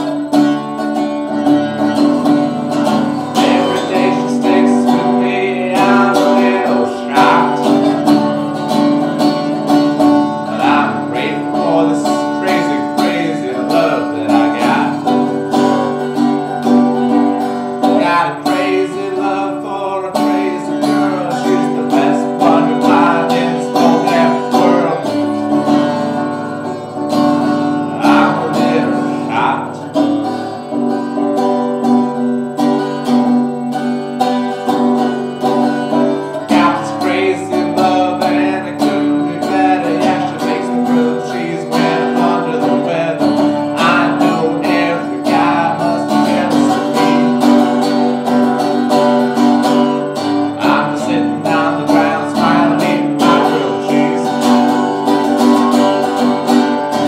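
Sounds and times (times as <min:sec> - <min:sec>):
resonator guitar strumming: 0:00.0 - 0:57.0.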